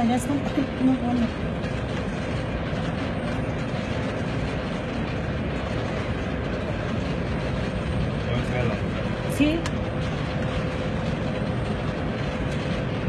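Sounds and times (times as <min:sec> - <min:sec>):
mechanical rumble: 0:00.0 - 0:13.0.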